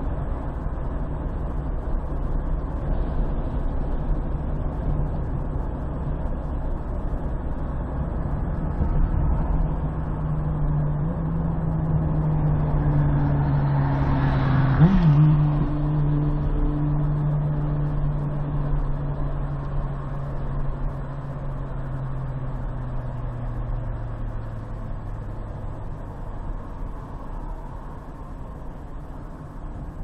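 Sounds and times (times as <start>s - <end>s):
car tyre and road noise: 0.0s - 30.0s.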